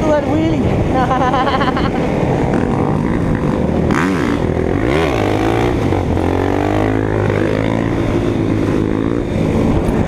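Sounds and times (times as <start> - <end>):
motorcycle engine revving: 0.8 - 10.0.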